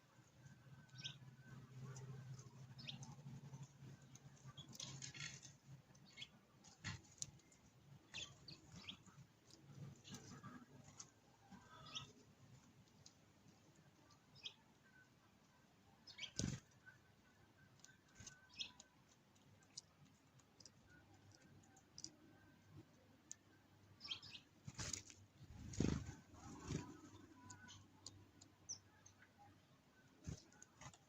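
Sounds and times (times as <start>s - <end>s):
sparrows chirping: 0.2s - 15.2s, 15.9s - 31.0s.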